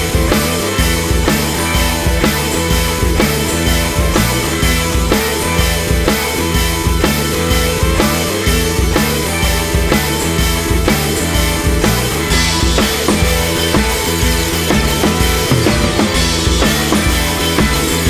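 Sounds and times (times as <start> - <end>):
rock instrumental with drum beat: 0.0 - 18.0.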